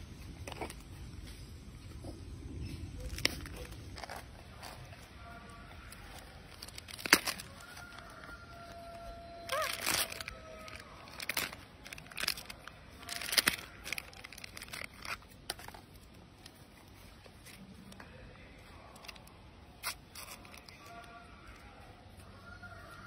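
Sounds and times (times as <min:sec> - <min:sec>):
plastic wrapper crackling: 0:02.8 - 0:21.6.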